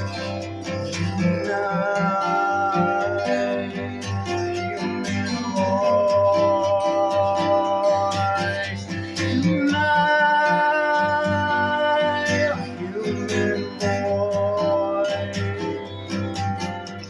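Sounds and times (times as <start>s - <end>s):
strummed guitar: 0.0s - 17.0s.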